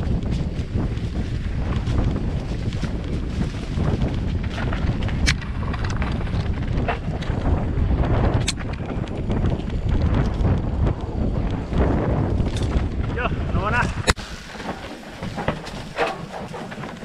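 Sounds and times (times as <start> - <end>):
bike rattling over bumps: 0.0 - 17.0
tyres rolling on dirt and stones: 0.0 - 17.0
wind on microphone: 0.0 - 17.0.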